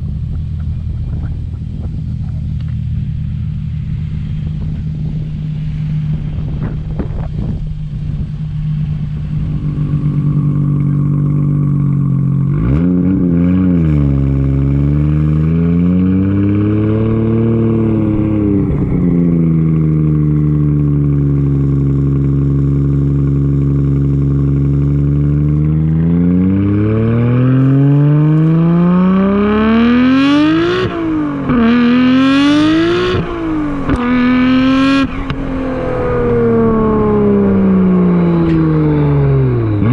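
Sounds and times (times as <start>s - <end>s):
car engine revving and accelerating: 0.7s - 39.9s.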